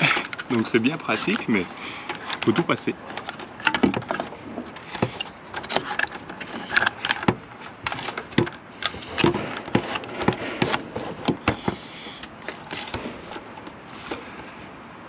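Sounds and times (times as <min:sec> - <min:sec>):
cables scraping through plastic gland: 0:00.0 - 0:14.3.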